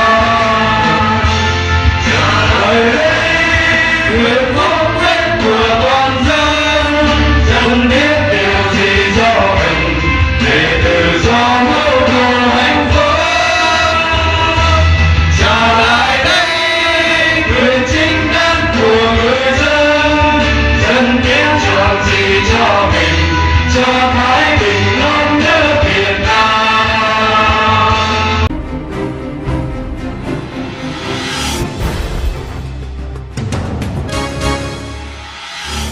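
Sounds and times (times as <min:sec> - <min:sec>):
musical accompaniment: 0:00.0 - 0:35.9.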